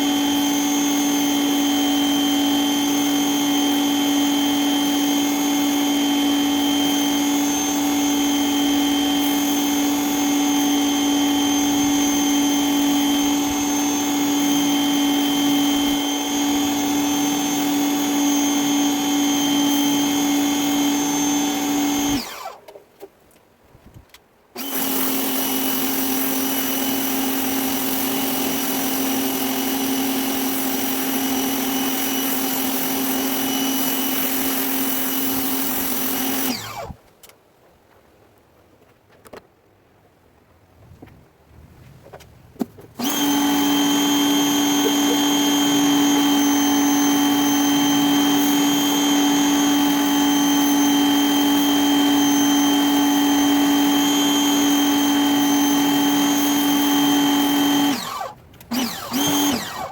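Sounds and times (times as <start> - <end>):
electric pressure washer motor: 0.0 - 22.6, 24.6 - 37.0, 43.0 - 59.9.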